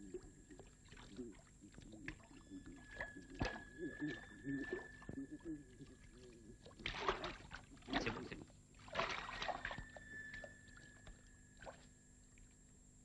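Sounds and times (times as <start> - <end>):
water dripping: 0.0 - 12.6
water splashing in a bathtub: 0.0 - 12.6.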